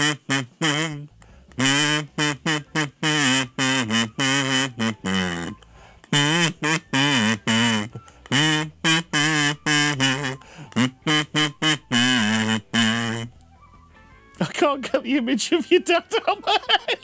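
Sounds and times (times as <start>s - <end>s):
kazoo buzzing melody: 0.0s - 14.4s, 16.0s - 17.0s.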